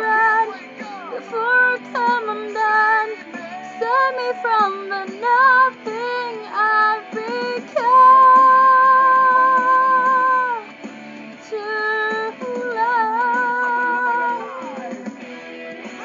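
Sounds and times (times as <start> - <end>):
woman singing: 0.0 - 10.7, 11.4 - 15.1
backing music: 0.0 - 16.0.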